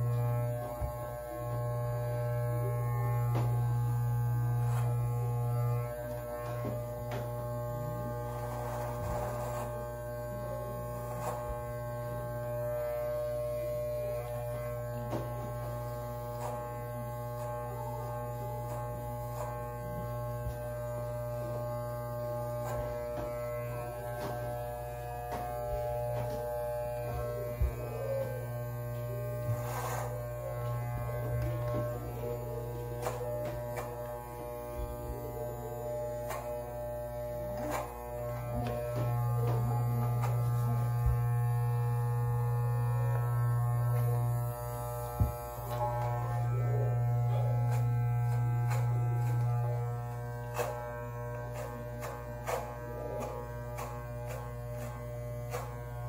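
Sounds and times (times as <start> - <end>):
beard trimmer buzzing: 0.0 - 56.0.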